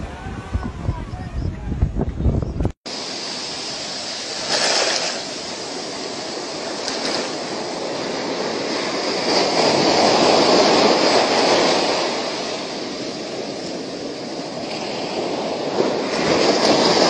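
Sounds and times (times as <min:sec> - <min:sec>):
surf washing up a beach: 0:02.9 - 0:17.0.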